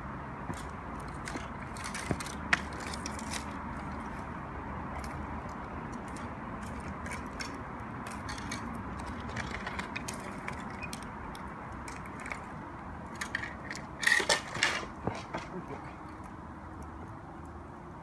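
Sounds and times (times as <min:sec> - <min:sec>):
campfire crackling and popping: 0:00.4 - 0:17.6.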